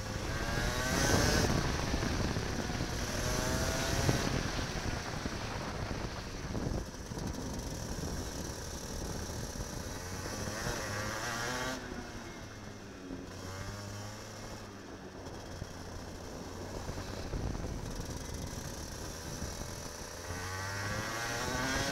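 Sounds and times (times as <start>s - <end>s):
kart engine revving: 0.0s - 21.9s.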